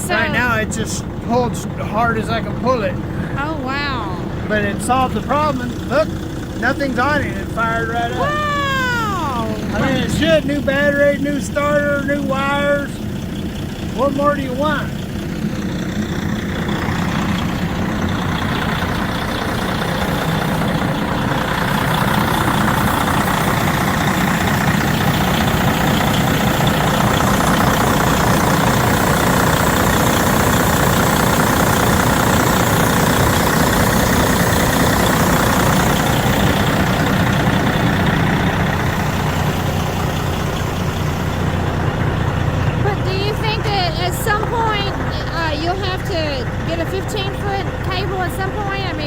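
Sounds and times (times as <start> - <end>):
truck diesel engine idling: 0.0 - 49.0.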